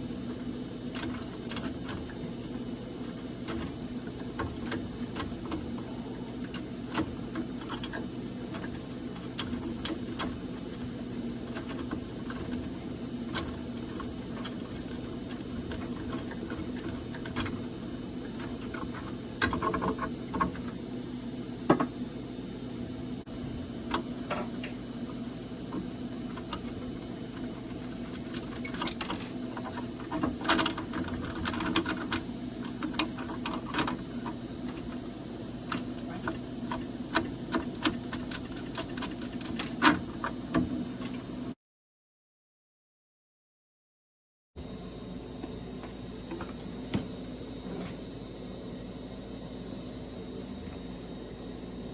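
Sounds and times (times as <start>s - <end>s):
low machine hum: 0.0s - 41.6s, 44.6s - 51.9s.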